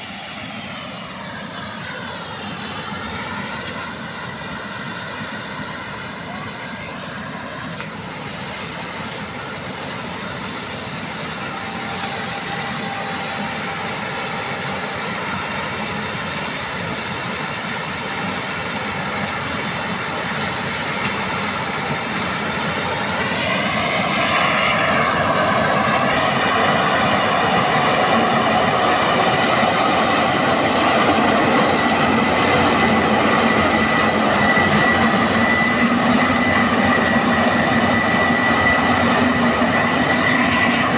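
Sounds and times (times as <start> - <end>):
combine harvester running: 0.0 - 40.9
high mechanical whine: 0.0 - 40.9.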